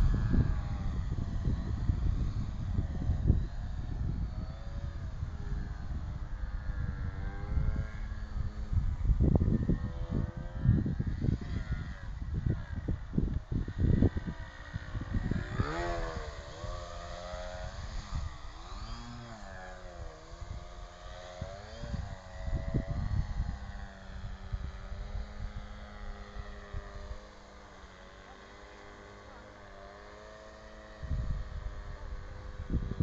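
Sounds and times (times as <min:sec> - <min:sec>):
wind buffeting microphone: 0:00.0 - 0:29.5, 0:30.1 - 0:33.0
model airplane engine and propeller: 0:00.0 - 0:33.0.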